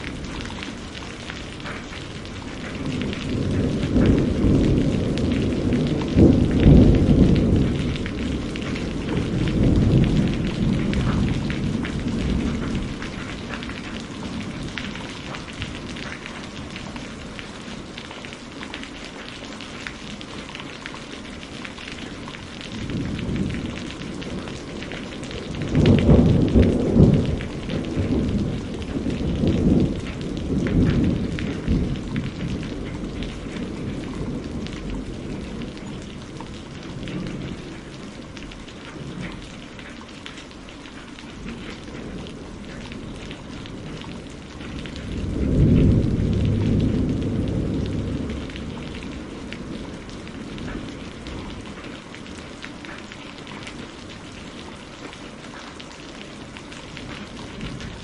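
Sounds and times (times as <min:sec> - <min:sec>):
rolling thunder: 0:00.0 - 0:18.0, 0:21.5 - 0:39.8, 0:41.3 - 0:52.1, 0:56.9 - 0:58.0
steady rain: 0:00.0 - 0:58.0.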